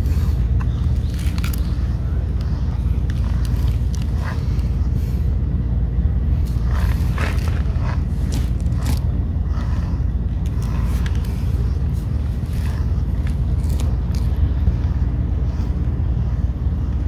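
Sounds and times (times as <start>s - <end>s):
comb scraping through cat fur: 0.0s - 5.3s, 6.4s - 16.5s
low rumble: 0.0s - 17.0s.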